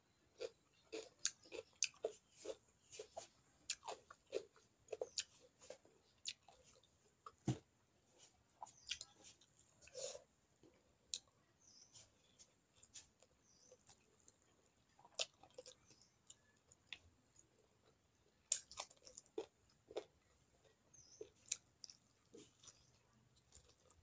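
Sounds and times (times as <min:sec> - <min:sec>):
wet chewing and mouth clicks: 0:00.4 - 0:07.4, 0:08.6 - 0:10.0, 0:12.9 - 0:24.0.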